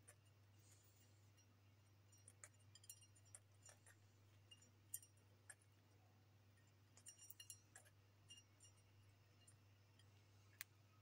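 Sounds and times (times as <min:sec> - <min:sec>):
bird beak pecking on plate: 0:00.0 - 0:05.8, 0:06.6 - 0:10.2
steady low hum: 0:00.0 - 0:11.0.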